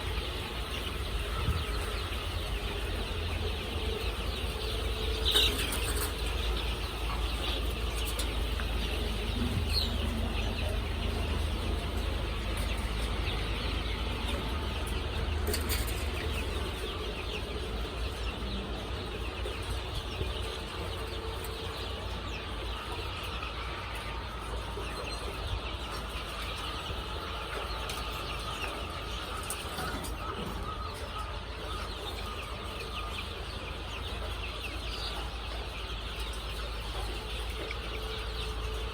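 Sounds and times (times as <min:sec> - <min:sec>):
chicks cheeping: 0:00.0 - 0:38.9.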